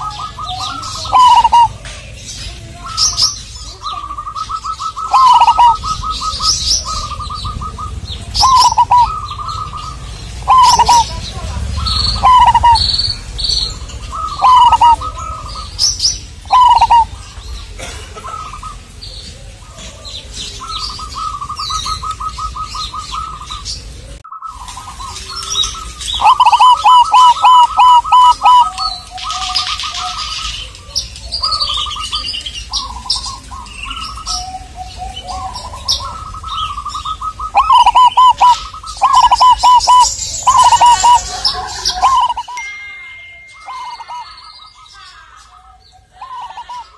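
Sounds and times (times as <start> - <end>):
doves cooing: 0.0 - 42.8, 43.6 - 46.9
small birds chirping: 0.0 - 46.9.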